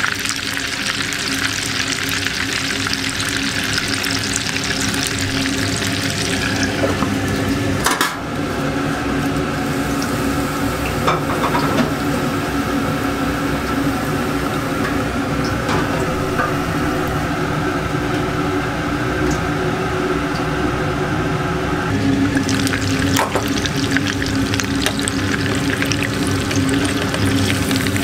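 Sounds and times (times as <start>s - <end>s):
oil sizzling and crackling: 0.0s - 19.5s, 21.8s - 28.0s
steady hum: 0.0s - 28.0s.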